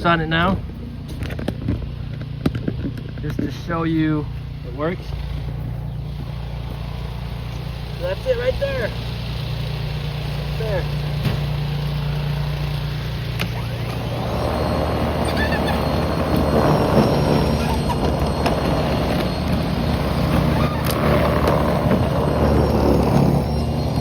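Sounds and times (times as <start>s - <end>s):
snow blower motor hum: 0.4s - 24.0s
auger churning and throwing snow: 3.4s - 24.0s.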